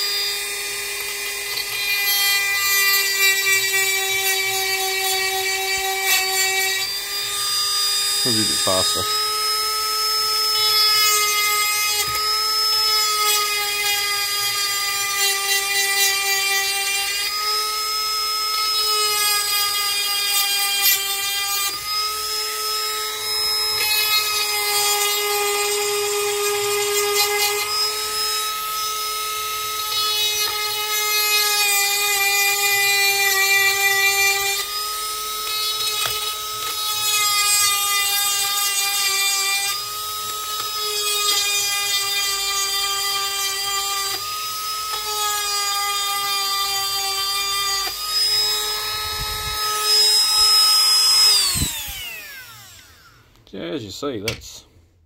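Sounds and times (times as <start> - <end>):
rotary tool whining: 0.0 - 53.4.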